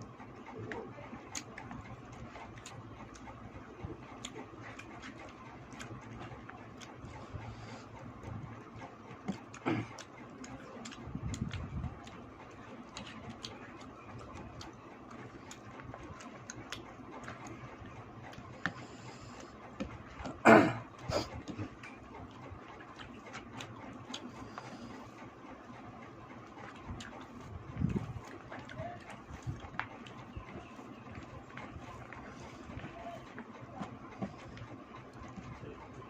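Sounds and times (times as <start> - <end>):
chewing clicks and smacks: 0.5 - 36.0
eating from a plate: 0.5 - 36.0.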